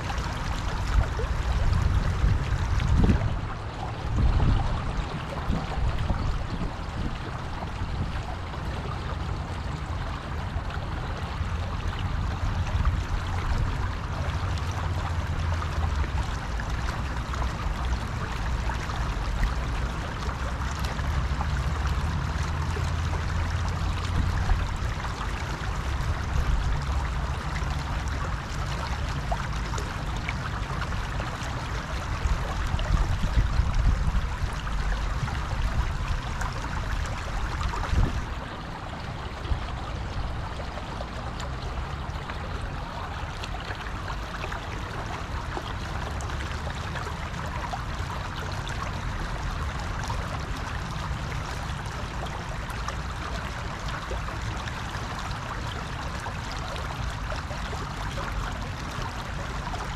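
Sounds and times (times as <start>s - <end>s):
river rushing over branch: 0.0s - 59.9s.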